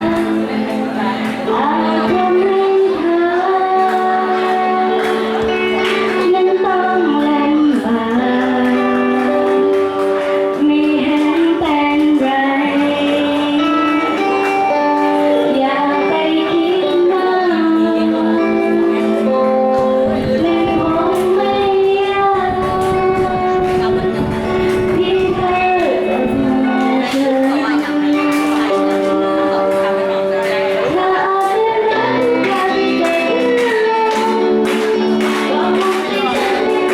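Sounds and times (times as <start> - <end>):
girl singing: 0.0 - 36.9
instrumental backing chords: 0.0 - 36.9.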